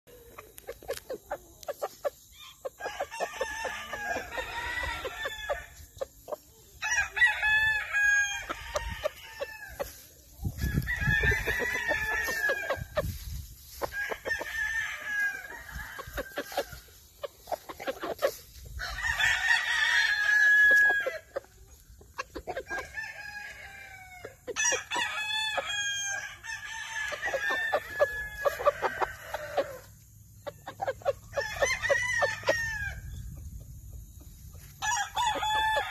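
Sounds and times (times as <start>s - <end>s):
roosters crowing: 1.0s - 33.3s, 34.6s - 35.9s.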